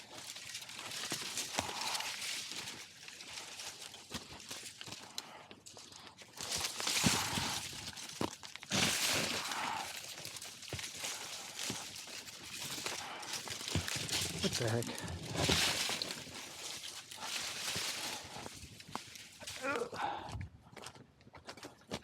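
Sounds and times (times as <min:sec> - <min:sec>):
leafy rustling: 0:00.0 - 0:20.2.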